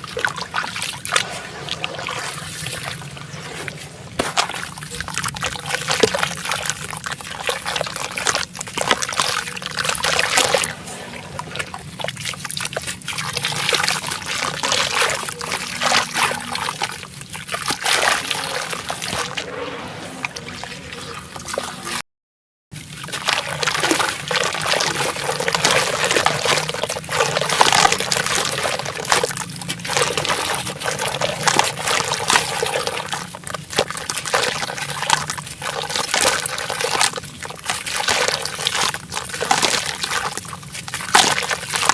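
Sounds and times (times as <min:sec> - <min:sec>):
water sloshing: 0:00.0 - 0:22.0, 0:22.8 - 0:41.9.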